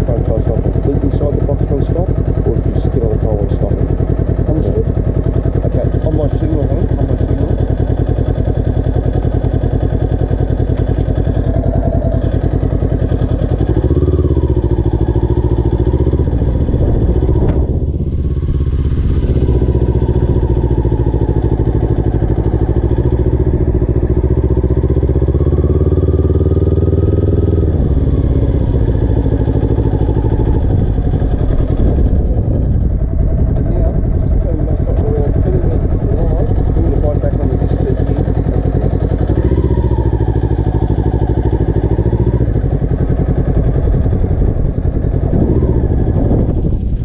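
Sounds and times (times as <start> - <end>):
motorcycle engine: 0.0 - 47.0.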